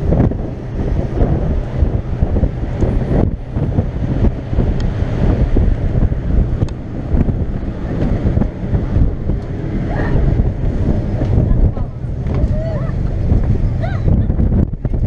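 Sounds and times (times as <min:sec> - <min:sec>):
sea and ship noise: 0:00.0 - 0:15.0
wind buffeting microphone: 0:00.0 - 0:15.0.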